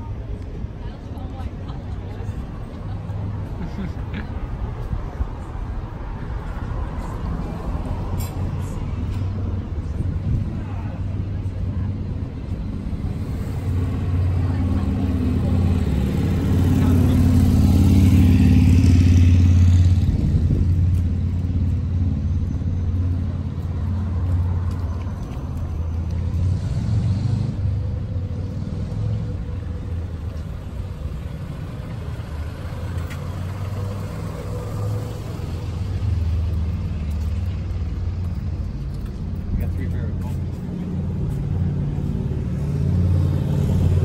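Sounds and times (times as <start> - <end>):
traffic engine rumble: 0.0 - 44.0.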